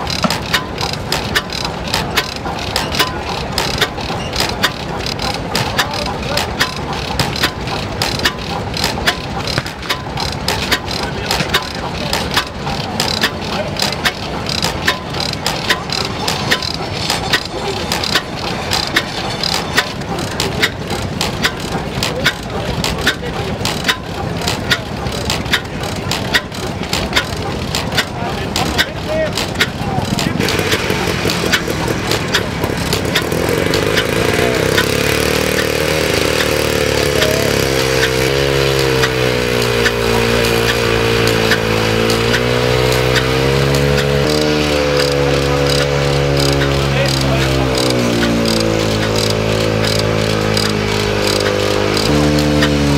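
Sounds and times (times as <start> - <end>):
stationary engine running slowly: 0.0 - 52.9
valve gear clicking: 0.0 - 52.9.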